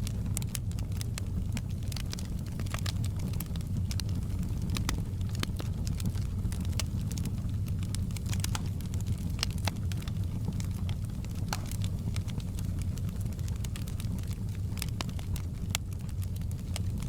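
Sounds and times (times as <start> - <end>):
campfire flames rumbling: 0.0 - 17.0
wood crackling and popping: 0.0 - 17.0.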